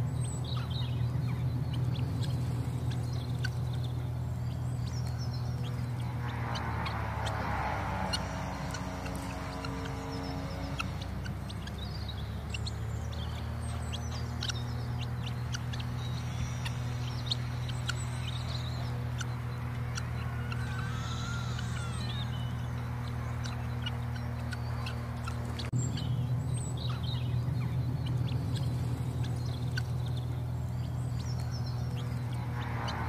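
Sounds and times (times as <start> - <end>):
background music drone: 0.0 - 33.0
birds chirping: 0.0 - 33.0.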